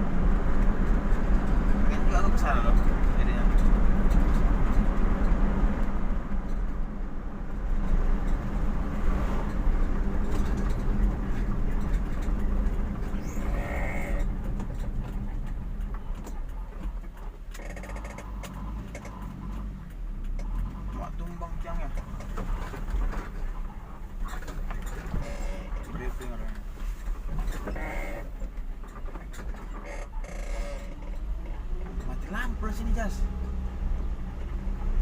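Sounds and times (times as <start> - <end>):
engine and road noise: 0.0 - 35.0.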